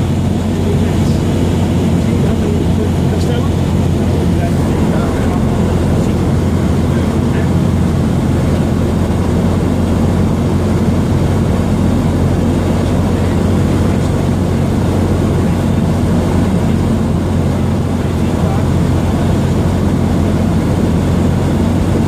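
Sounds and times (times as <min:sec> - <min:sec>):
propeller plane engine droning: 0:00.0 - 0:22.0.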